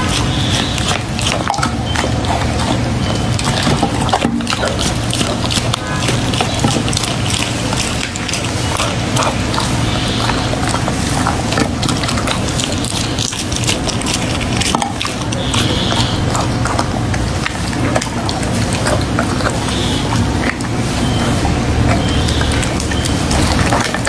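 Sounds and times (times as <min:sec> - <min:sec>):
dog chewing meat: 0:00.0 - 0:24.0
jaws and teeth clicking: 0:00.0 - 0:24.0.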